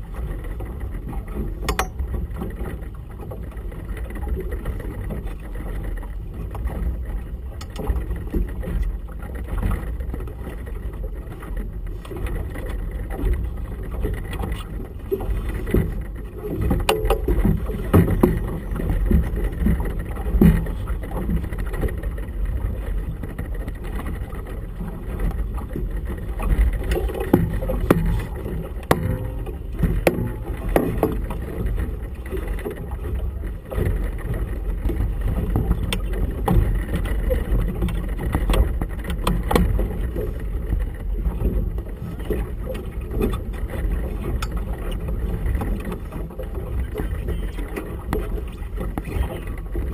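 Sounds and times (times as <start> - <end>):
low wind rumble: 0.0 - 49.9
waves slapping boat hull: 0.0 - 49.9.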